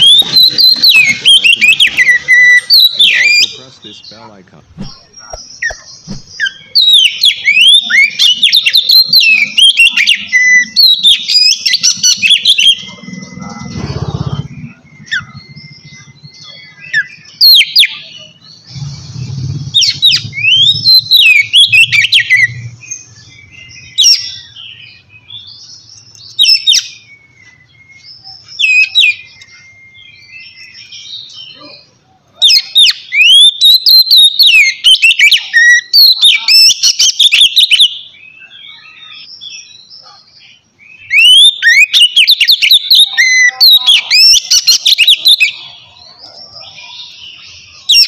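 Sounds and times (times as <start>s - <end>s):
bird singing whistled phrases: 0.0s - 40.2s, 40.8s - 48.0s.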